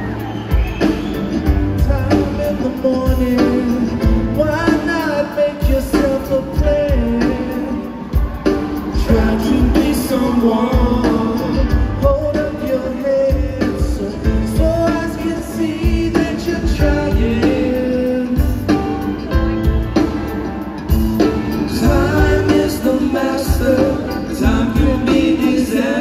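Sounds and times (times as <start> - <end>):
piano: 0.0 - 26.0
person singing: 1.4 - 26.0.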